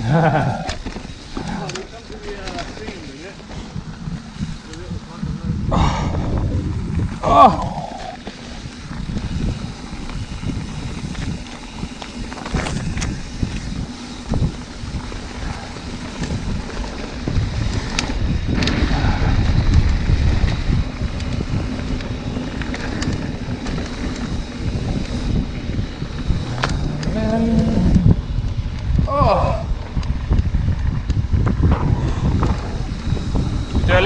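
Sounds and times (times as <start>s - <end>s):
steady ride rumble: 0.0s - 34.0s
wind buffeting microphone: 0.0s - 34.0s.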